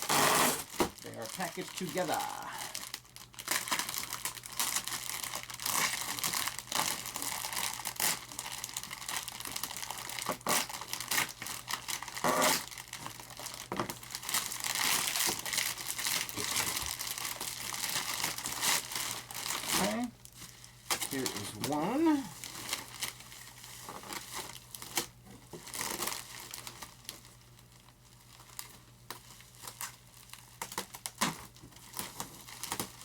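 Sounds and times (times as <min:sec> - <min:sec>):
plastic packaging crinkling: 0:00.0 - 0:33.0.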